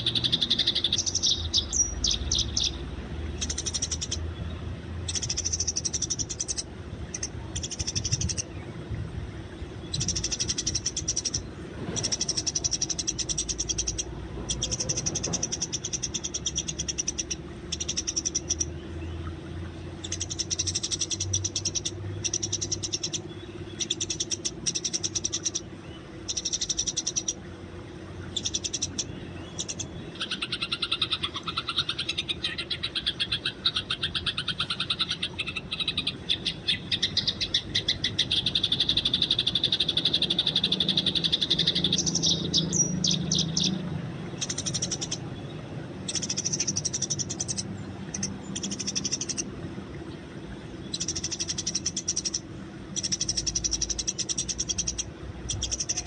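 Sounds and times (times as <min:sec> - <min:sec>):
sparrows chirping: 0:00.0 - 0:08.7, 0:09.7 - 0:19.3, 0:20.0 - 0:27.5, 0:28.1 - 0:56.0.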